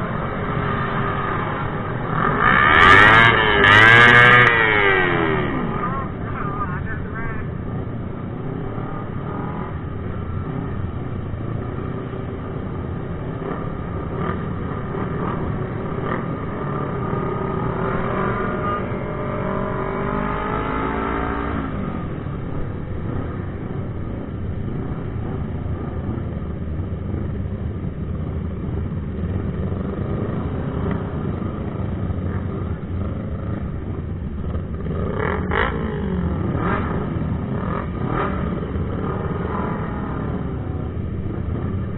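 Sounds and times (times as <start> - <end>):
motorcycle engines revving: 0.0 - 41.9.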